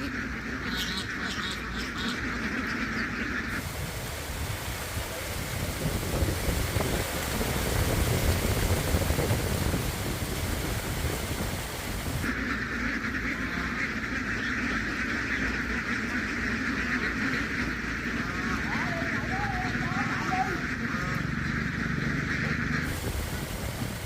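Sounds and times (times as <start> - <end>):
flock of ducks quacking: 0.0 - 24.0.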